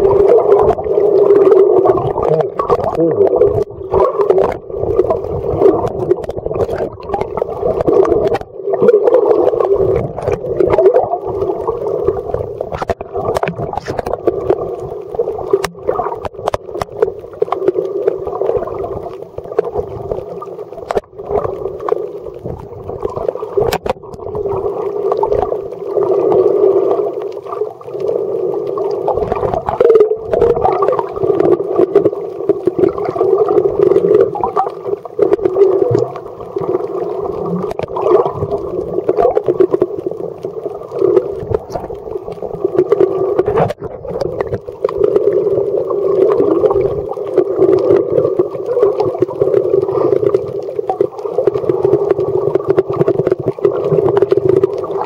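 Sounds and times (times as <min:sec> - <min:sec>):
water rushing and sloshing: 0:00.0 - 0:55.0.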